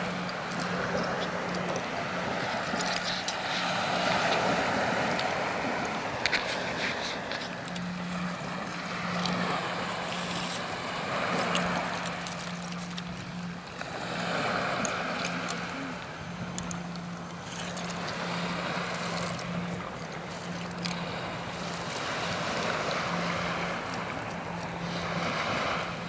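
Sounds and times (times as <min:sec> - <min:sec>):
low steady hum: 0:00.0 - 0:26.0
surf washing on beach: 0:00.0 - 0:26.0
wind on microphone: 0:00.0 - 0:26.0.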